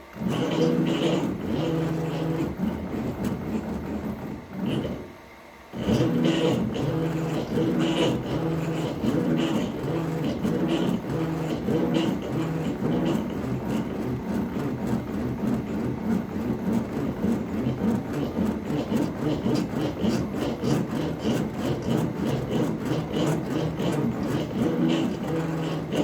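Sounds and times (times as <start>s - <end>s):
router cutting wood: 0.2s - 5.1s, 5.8s - 26.0s.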